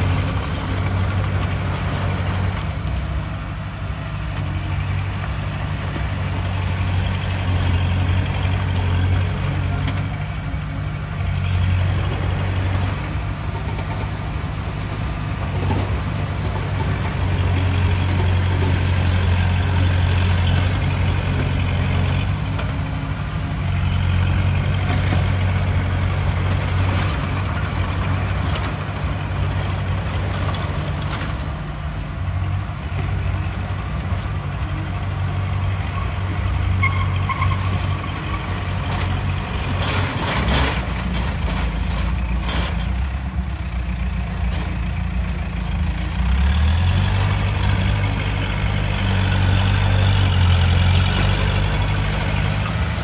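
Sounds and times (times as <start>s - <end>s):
heavy diesel engine drone: 0.0s - 53.0s.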